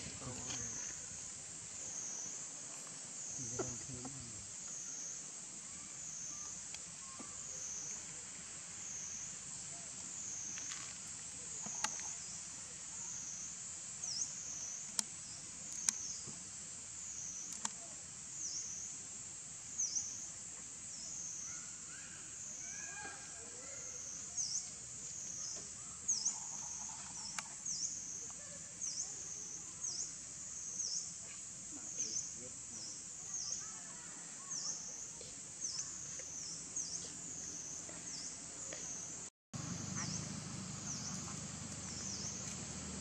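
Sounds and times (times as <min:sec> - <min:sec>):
insect chorus buzzing: 0:00.0 - 0:43.0.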